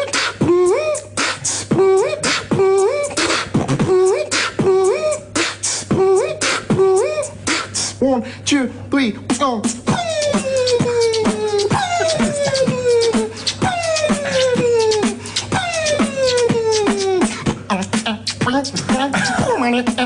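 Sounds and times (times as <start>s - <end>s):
man beatboxing: 0.0s - 8.2s, 9.3s - 20.0s.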